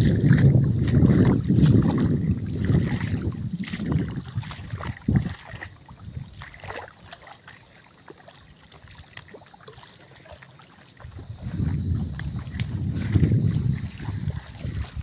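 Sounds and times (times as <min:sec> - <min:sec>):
footsteps sloshing through water: 0:00.0 - 0:15.0.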